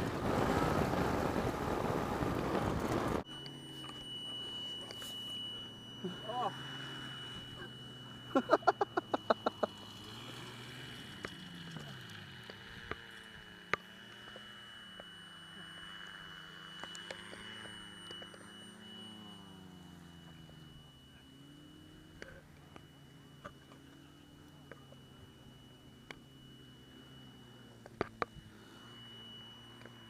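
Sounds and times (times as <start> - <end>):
distant engine drone: 0.0 - 30.0
thin high whine: 0.0 - 30.0.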